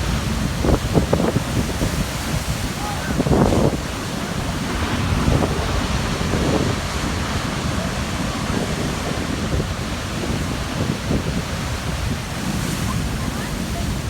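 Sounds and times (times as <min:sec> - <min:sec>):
surf crashing on rocks: 0:00.0 - 0:14.0
wind buffeting microphone: 0:00.0 - 0:14.0.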